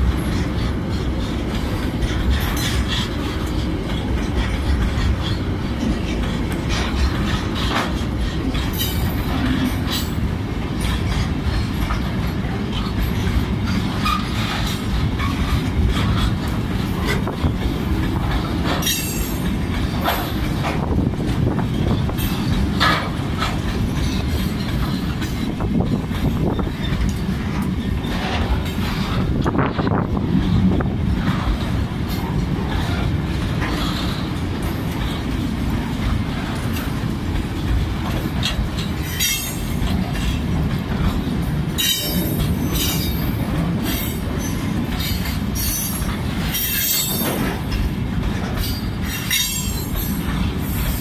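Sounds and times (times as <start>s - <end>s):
freight train rumbling past: 0.0s - 51.0s
wheels clattering over rails: 0.0s - 51.0s.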